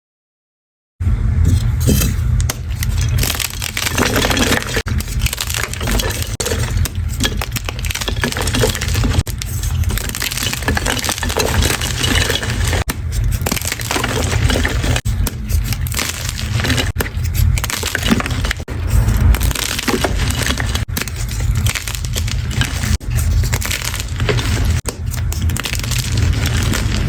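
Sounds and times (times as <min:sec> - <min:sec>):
chalk being crushed: 0:01.4 - 0:27.0.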